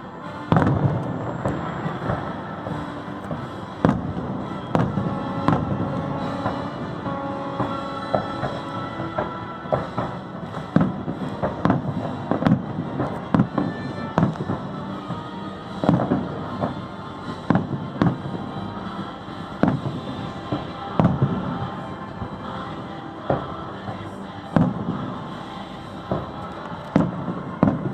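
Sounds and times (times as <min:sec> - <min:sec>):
music: 0:00.0 - 0:27.9
fireworks bursting: 0:00.1 - 0:27.9.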